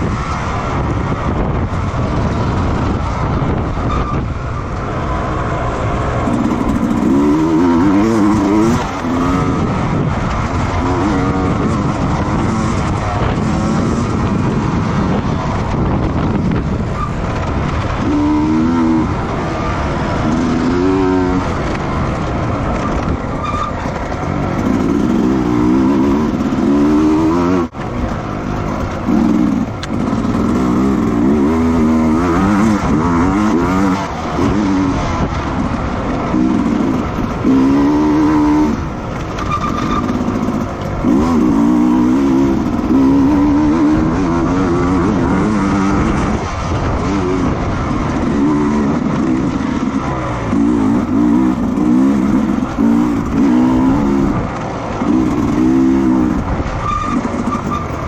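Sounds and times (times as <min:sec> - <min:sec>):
racing motorcycle engines revving: 0:00.0 - 0:58.0.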